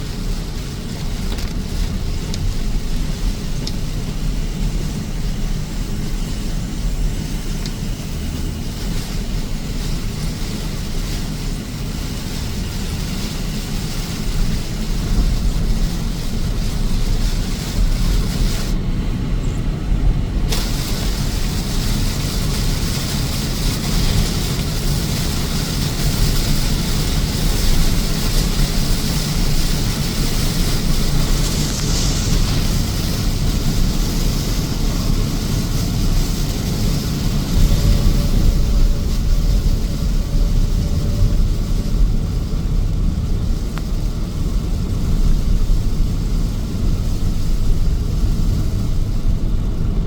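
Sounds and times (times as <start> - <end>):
car engine and road rumble: 0.0 - 50.0
tyres hissing on wet road: 0.0 - 50.0.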